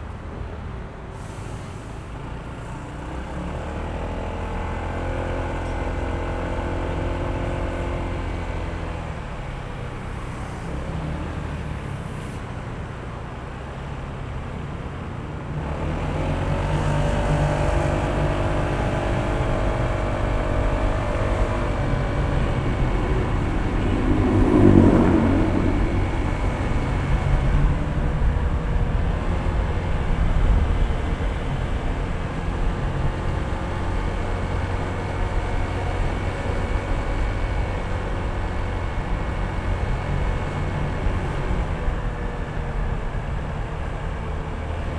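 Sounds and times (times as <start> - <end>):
road and wind rumble: 0.0 - 44.9.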